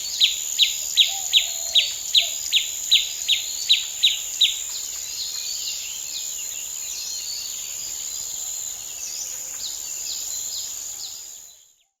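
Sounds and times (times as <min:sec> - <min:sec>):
forest birds chirping: 0:00.0 - 0:12.0.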